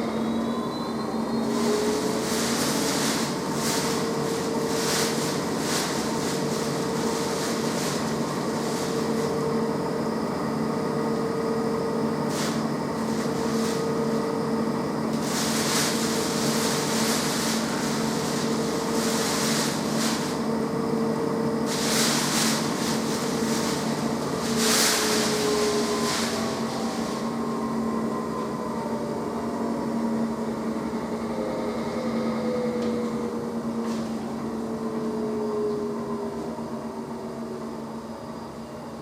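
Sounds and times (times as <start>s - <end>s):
washing machine motor humming: 0.0s - 38.1s.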